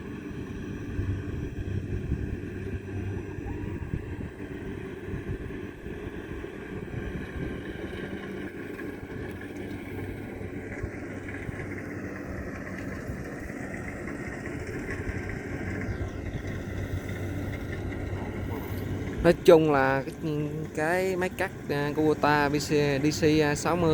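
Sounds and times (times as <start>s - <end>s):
combine harvester engine droning: 0.0s - 23.9s.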